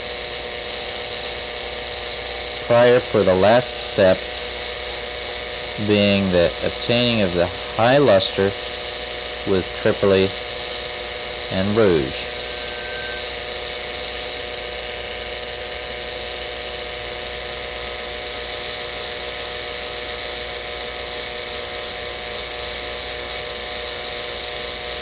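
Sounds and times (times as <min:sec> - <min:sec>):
dental drill whining: 0:00.0 - 0:25.0.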